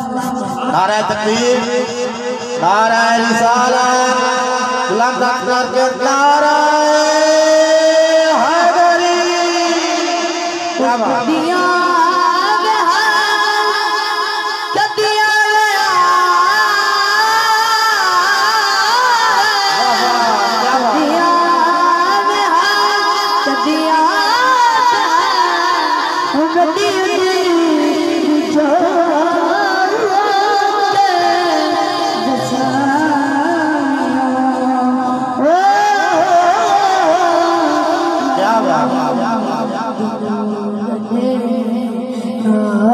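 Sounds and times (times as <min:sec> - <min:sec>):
boy singing into a microphone: 0:00.0 - 0:42.9.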